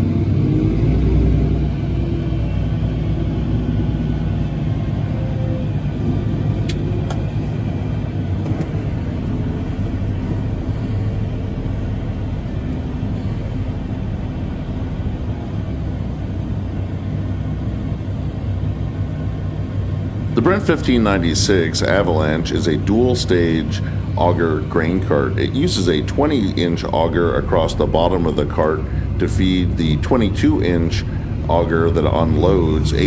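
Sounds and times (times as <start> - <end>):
tractor engine rumbling under load: 0.0 - 33.0.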